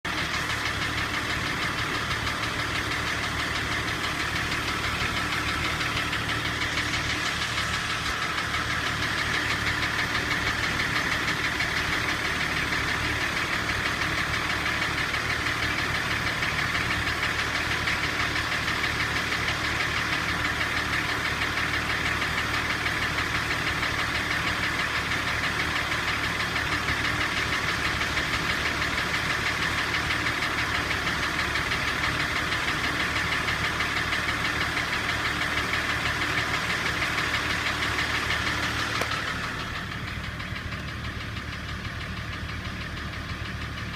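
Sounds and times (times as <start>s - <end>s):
engine running with knocking: 0.0s - 43.9s.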